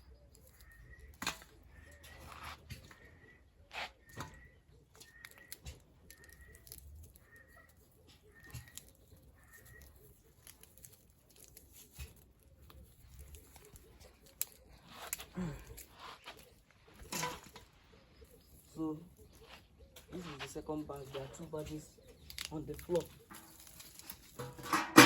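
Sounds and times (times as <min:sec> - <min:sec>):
bird chirping: 0:00.0 - 0:24.8.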